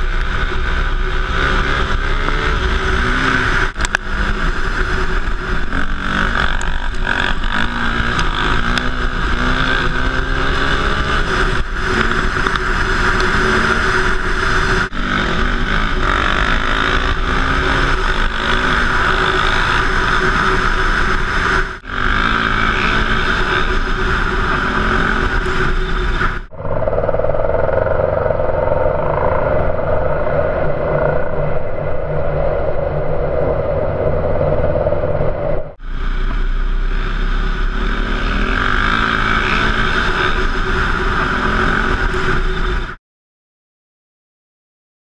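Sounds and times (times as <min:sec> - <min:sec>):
motorcycle engine running hard: 0:00.0 - 0:32.4, 0:35.7 - 0:43.0.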